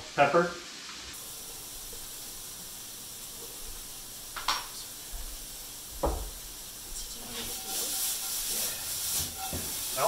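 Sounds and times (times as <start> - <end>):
mushrooms sizzling in frying pan: 0.0 - 10.0.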